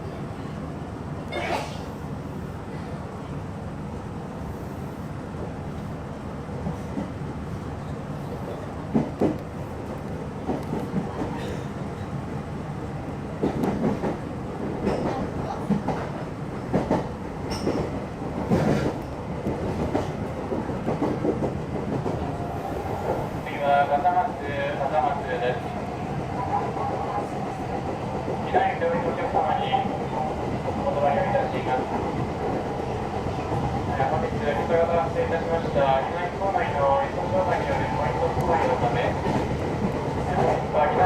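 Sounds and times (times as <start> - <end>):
electric train rumbling: 0.0 - 41.0.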